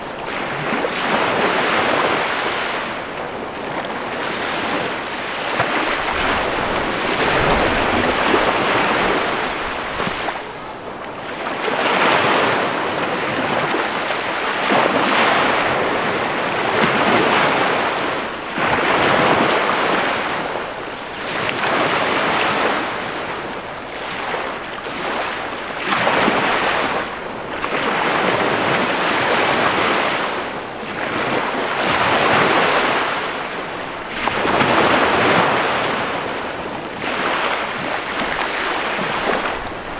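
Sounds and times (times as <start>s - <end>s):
small waves washing onto sand: 0.0s - 39.9s.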